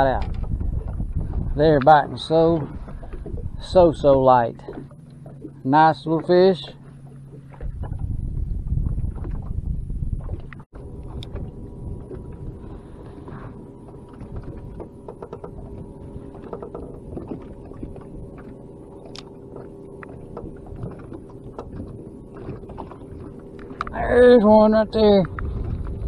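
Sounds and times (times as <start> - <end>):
faint hum: 0.0 - 26.0
waves lapping against boat hull: 0.0 - 26.0
wind: 0.0 - 26.0.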